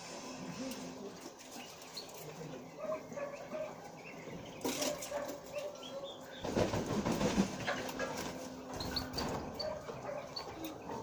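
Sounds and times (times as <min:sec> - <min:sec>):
small birds chirping faintly: 0:00.1 - 0:11.0.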